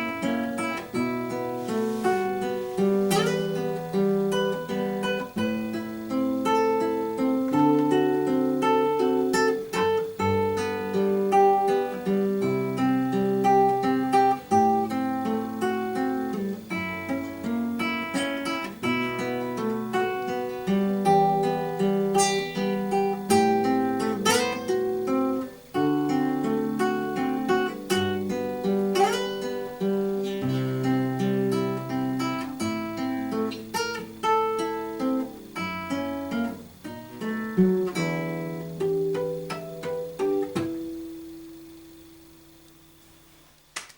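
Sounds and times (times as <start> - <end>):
fingerstyle acoustic guitar: 0.0 - 43.5.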